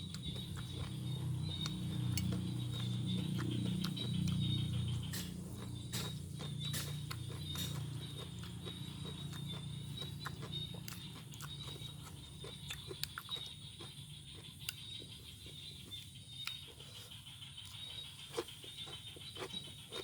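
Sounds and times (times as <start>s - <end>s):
chewing with crunches: 0.0s - 20.0s.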